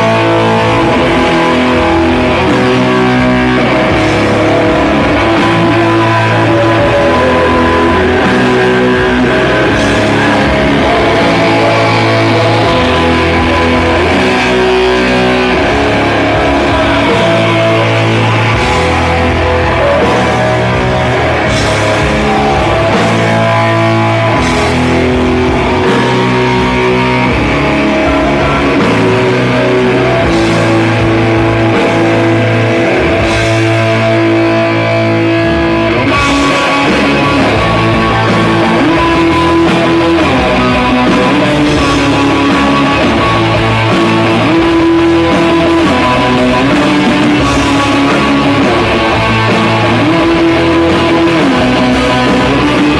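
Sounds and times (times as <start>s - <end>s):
bass line: 0.0s - 52.9s
drums: 0.0s - 52.9s
electric guitar: 0.0s - 52.9s.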